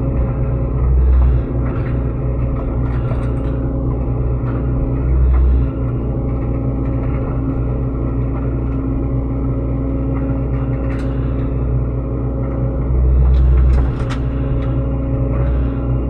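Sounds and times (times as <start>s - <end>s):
mini excavator diesel engine running: 0.0s - 16.0s.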